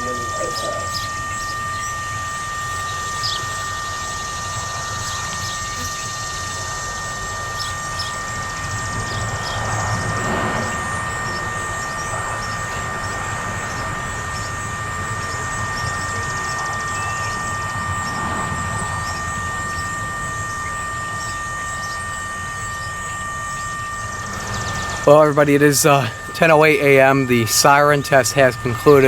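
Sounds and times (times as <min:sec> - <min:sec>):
electronic siren steady two-tone buzz: 0:00.0 - 0:29.0.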